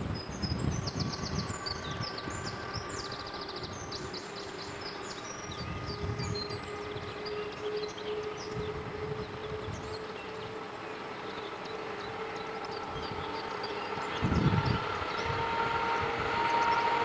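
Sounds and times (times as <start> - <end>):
low rumbling: 0.0 - 11.3, 12.0 - 17.0
birds singing: 0.0 - 17.0
distant electric train hum: 0.0 - 17.0.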